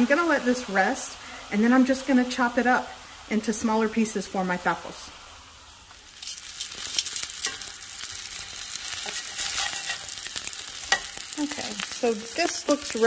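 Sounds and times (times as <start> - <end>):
vegetables sizzling in skillet: 0.0 - 13.0.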